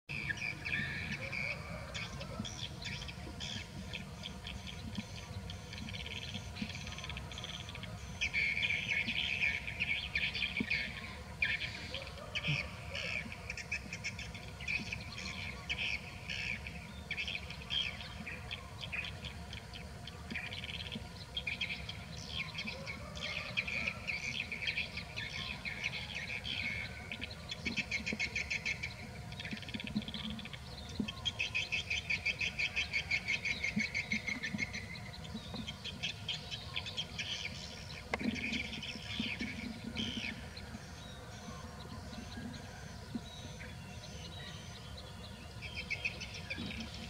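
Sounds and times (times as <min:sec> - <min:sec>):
birds chirping: 0:00.1 - 0:47.0
low outdoor background hum: 0:00.1 - 0:47.0.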